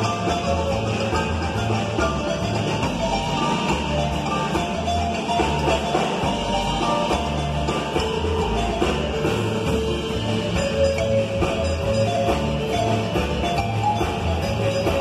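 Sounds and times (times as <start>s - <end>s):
drum kit beat: 0.0s - 15.0s
electric bass: 0.0s - 15.0s
marimba played with mallets: 0.0s - 15.0s.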